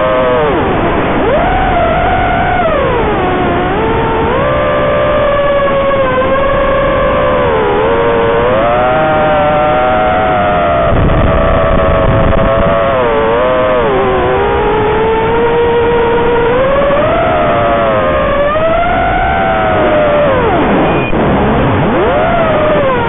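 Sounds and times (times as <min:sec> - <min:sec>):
drone motors whining: 0:00.0 - 0:23.0
low rushing noise: 0:00.0 - 0:23.0.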